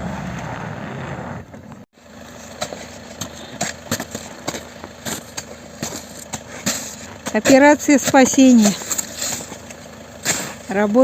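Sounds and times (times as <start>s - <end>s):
car engine idling: 0.0s - 11.0s
car engine revving: 0.0s - 11.0s.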